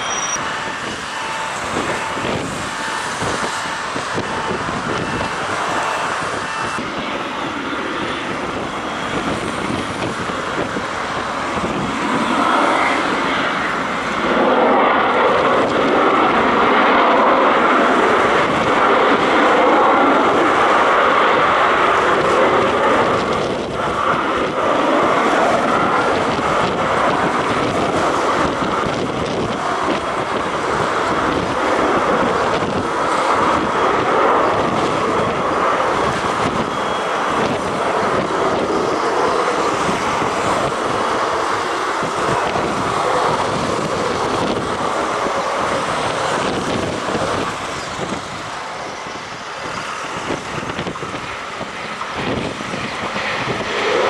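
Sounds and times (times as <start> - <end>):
aircraft engine noise: 0.0 - 54.0
wind buffeting microphone: 0.0 - 54.0.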